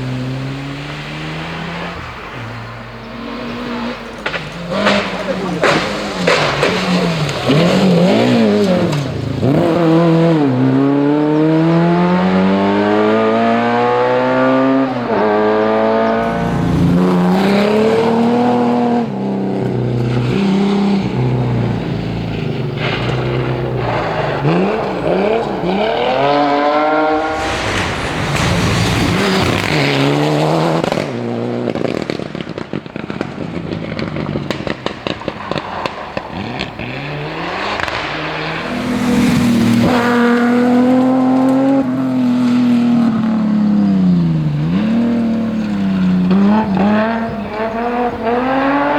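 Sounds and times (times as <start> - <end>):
rally car engine revving hard: 0.0 - 48.9
tyre and road noise: 0.0 - 48.9.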